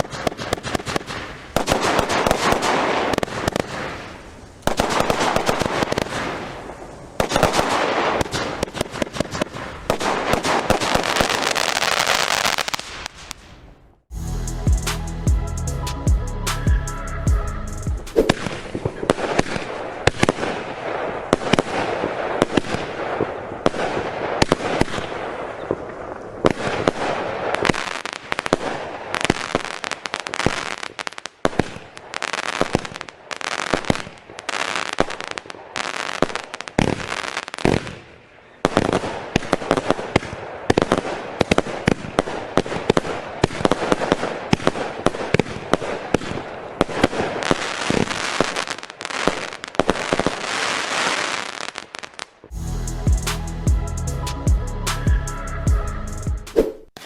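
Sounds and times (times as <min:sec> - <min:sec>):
firework bangs: 0:00.0 - 0:13.7, 0:18.1 - 0:52.6
firework crackling: 0:00.0 - 0:14.2, 0:17.7 - 0:53.5.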